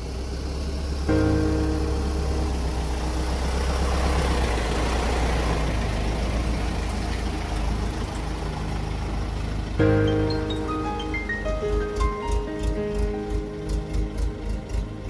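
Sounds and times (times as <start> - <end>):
truck diesel engine rumble: 0.0 - 15.0.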